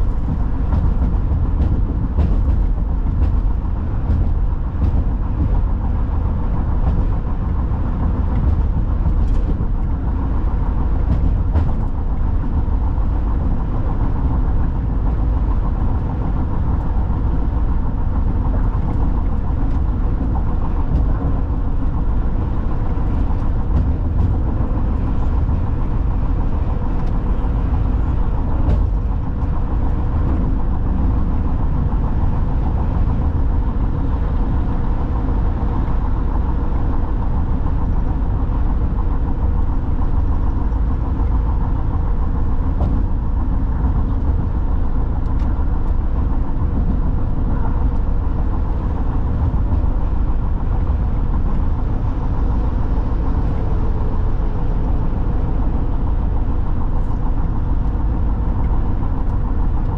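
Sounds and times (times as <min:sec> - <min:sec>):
car road rumble: 0:00.0 - 0:59.9.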